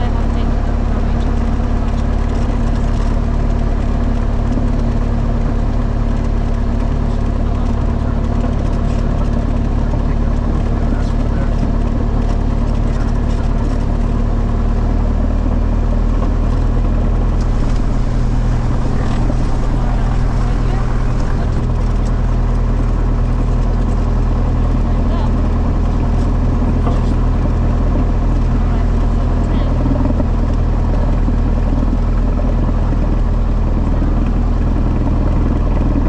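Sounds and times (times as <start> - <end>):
light airplane engine droning: 0.0 - 36.0.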